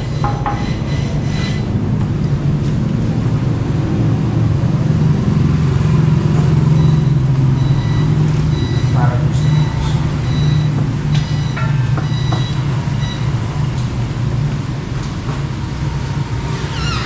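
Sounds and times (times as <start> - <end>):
vehicle engine running: 0.0 - 16.6.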